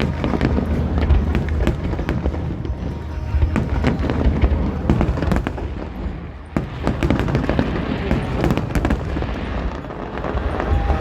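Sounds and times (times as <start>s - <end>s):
fireworks bangs and crackles: 0.0s - 11.0s
low rumble: 0.0s - 11.0s.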